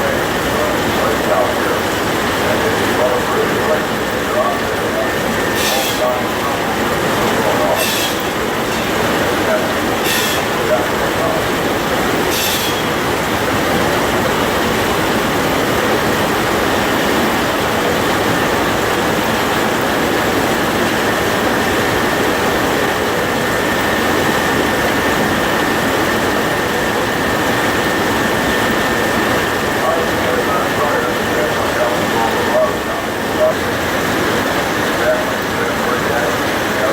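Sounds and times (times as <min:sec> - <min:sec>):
sawmill running: 0:00.0 - 0:36.9.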